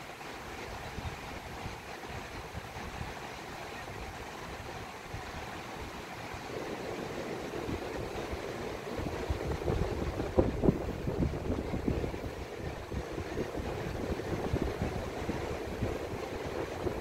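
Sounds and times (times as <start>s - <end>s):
surf washing: 0.0s - 17.0s
wind buffeting microphone: 0.7s - 17.0s.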